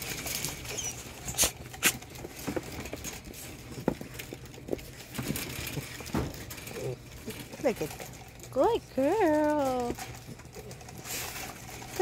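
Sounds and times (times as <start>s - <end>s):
puppies scrambling in straw: 0.0s - 12.0s.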